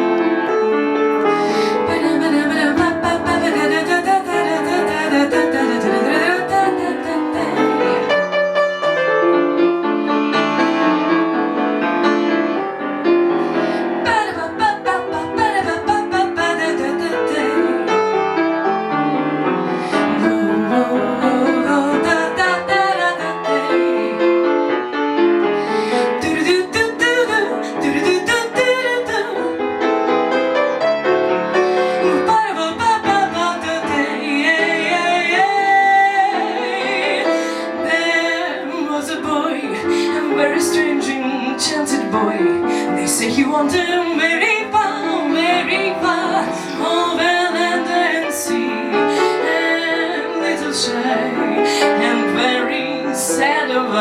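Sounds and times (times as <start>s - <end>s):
piano-led ballad music: 0.0s - 54.0s.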